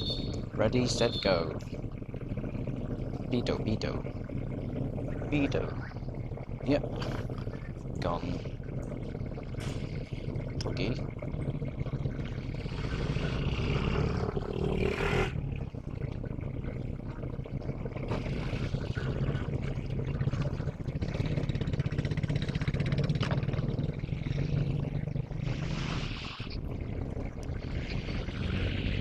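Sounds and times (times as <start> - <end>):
diesel locomotive engine humming: 0.0 - 29.0.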